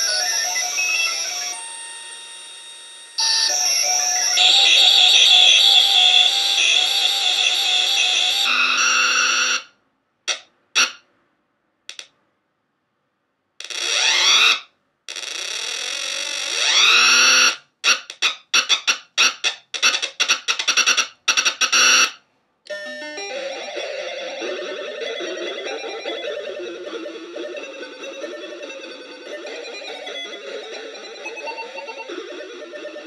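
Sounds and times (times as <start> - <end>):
glitching electronic toy tones: 0.0 - 9.7, 13.6 - 33.0.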